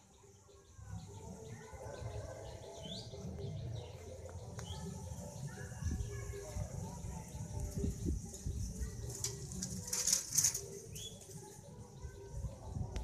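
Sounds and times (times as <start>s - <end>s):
bird chirping: 0.0s - 12.5s.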